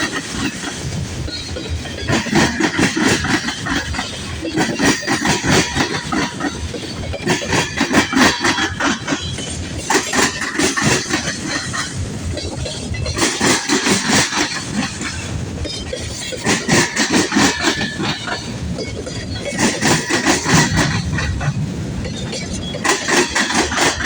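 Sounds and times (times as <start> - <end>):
freight train wheels clicking: 0.0 - 24.0.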